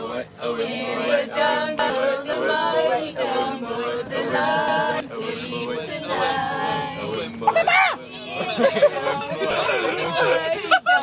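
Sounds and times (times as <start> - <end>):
voices singing unaccompanied: 0.0 - 11.0.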